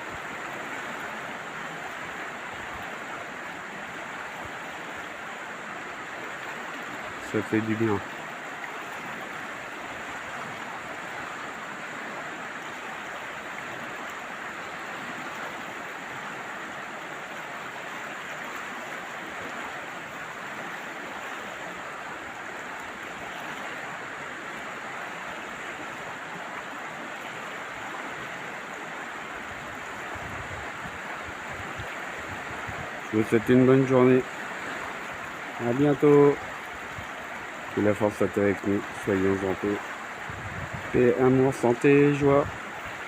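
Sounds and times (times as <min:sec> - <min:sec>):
flowing river water: 0:00.0 - 0:43.0.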